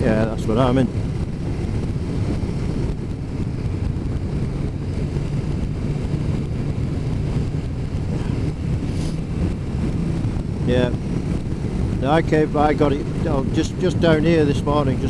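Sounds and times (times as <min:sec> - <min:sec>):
motorcycle engine cruising: 0:00.0 - 0:15.0
wind noise on microphone: 0:00.0 - 0:15.0.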